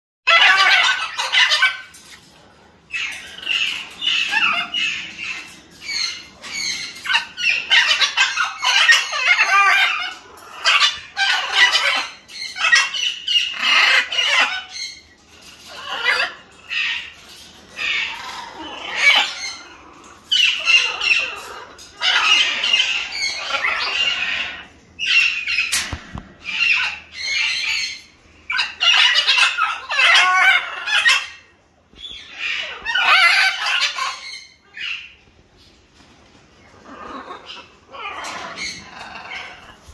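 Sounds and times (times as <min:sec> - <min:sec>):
macaws squawking: 0:00.3 - 0:02.2, 0:02.9 - 0:35.2, 0:36.7 - 0:39.9.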